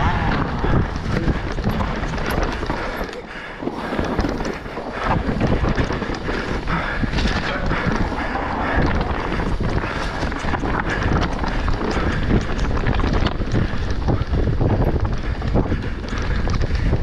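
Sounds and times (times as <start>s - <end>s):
bike rattling over bumps: 0.0s - 17.0s
tyres rumbling over dirt: 0.0s - 17.0s
wind buffeting microphone: 0.0s - 17.0s.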